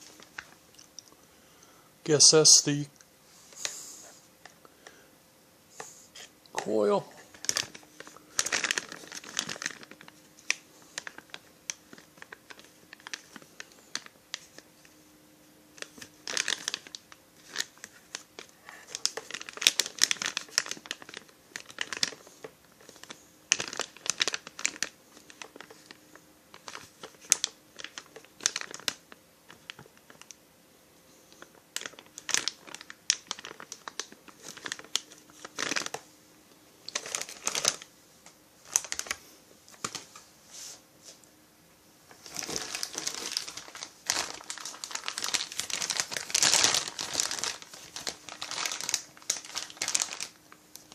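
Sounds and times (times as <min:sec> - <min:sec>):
packaging crinkling and rustling: 0:00.0 - 0:01.1, 0:06.2 - 0:15.0, 0:15.7 - 0:30.4, 0:31.3 - 0:36.1, 0:36.8 - 0:37.9, 0:38.6 - 0:40.3, 0:42.1 - 0:50.9
faint steady hum: 0:00.0 - 0:50.9.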